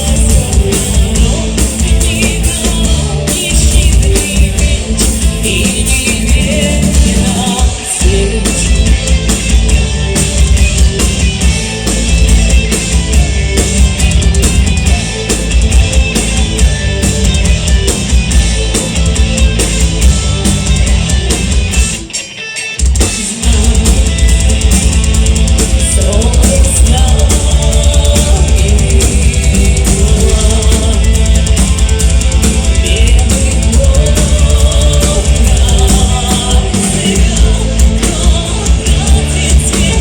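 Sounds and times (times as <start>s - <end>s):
metal band playing live: 0.0s - 40.0s.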